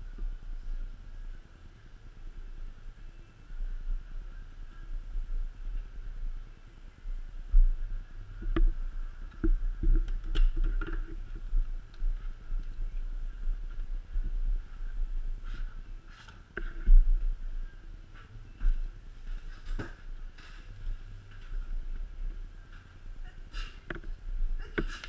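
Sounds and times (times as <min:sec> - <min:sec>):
low steady rumble: 0:00.0 - 0:24.9.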